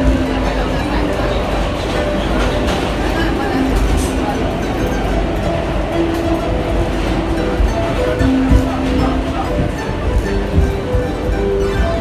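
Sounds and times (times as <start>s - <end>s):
plucked harp notes: 0.0s - 12.0s
subway train rumbling: 0.0s - 12.0s.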